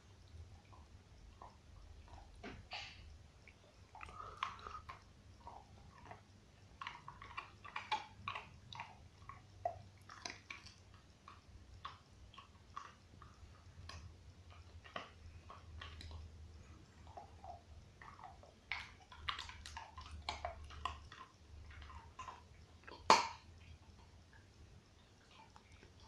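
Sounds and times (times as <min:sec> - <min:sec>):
dog gnawing on a bone: 0:03.8 - 0:26.0.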